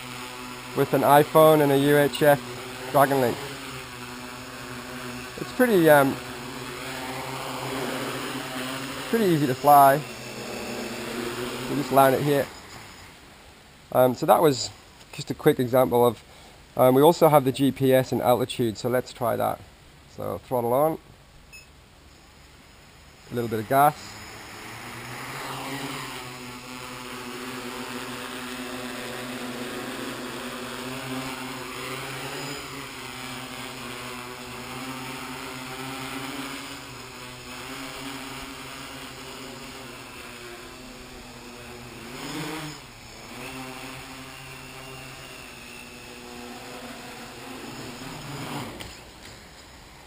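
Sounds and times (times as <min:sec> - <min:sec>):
drone motors humming: 0:00.0 - 0:14.8, 0:21.5 - 0:50.0.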